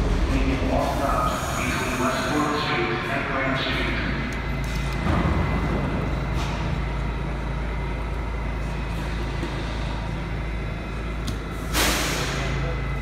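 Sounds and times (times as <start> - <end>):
train equipment low hum: 0.0 - 13.0.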